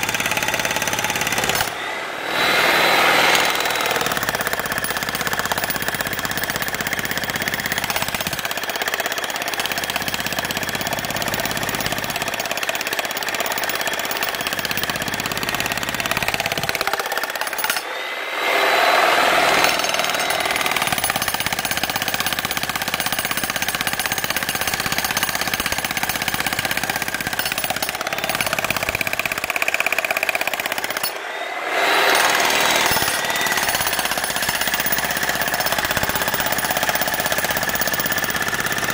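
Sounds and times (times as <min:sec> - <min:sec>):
jackhammer breaking concrete: 0:00.0 - 0:17.9, 0:19.3 - 0:38.9.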